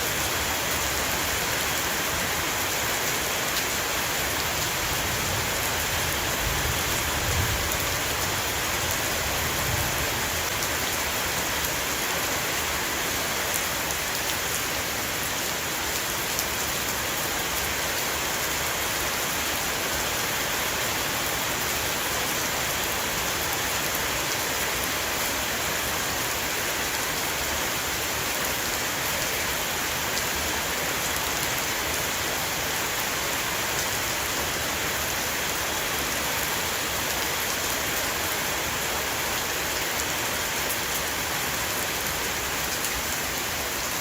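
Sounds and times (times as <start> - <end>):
heavy rain on a roof: 0.0 - 44.0.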